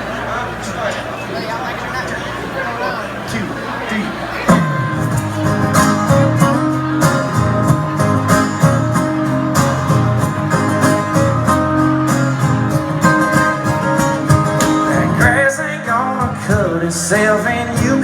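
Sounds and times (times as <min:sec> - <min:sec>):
strummed country guitar: 0:00.0 - 0:18.0.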